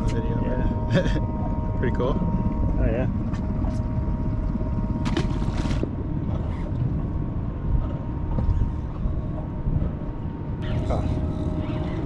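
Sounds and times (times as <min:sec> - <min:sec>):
faint steady hum: 0:00.0 - 0:12.0
wind rumbling on microphone: 0:00.0 - 0:12.0.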